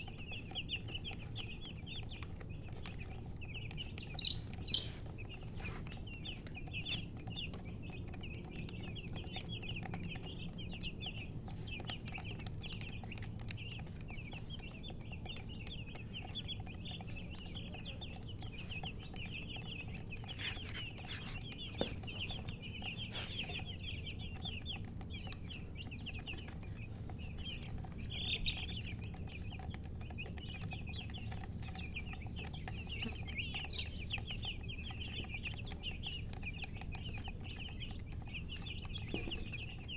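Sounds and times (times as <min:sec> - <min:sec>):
chicks peeping: 0:00.0 - 0:39.9
low steady rumble: 0:00.0 - 0:39.9.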